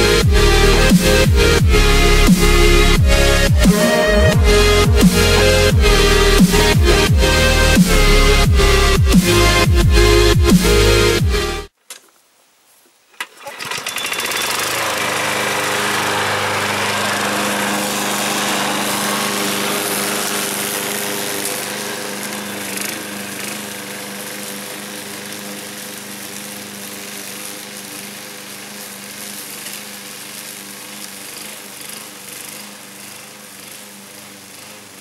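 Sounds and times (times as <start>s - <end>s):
lawn mower cutting grass: 0.0s - 11.7s, 13.2s - 35.0s.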